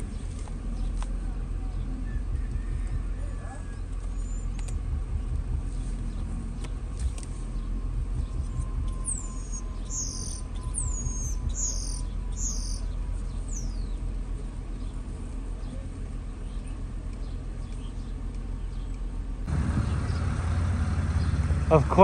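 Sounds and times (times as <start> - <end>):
birds chirping: 0.0 - 22.0
idling engine hum: 0.0 - 22.0.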